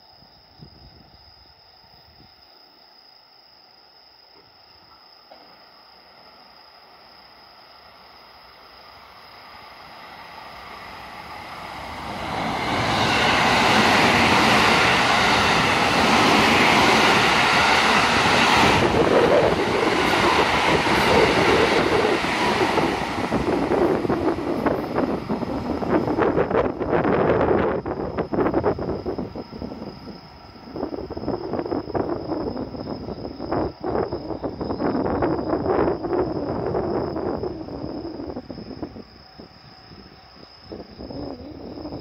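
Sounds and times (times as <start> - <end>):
electric train passing: 4.8 - 42.0
wheels rushing on rail: 7.8 - 42.0.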